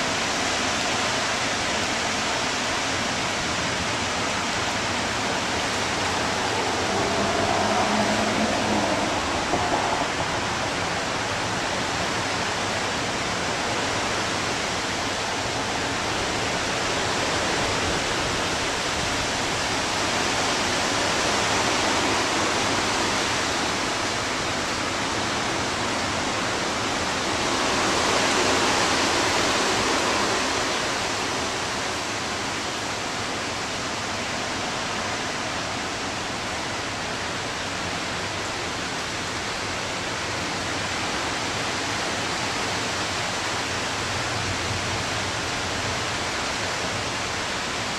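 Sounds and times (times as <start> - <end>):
gusting wind: 0.0 - 47.9
heavy rain: 0.0 - 47.9.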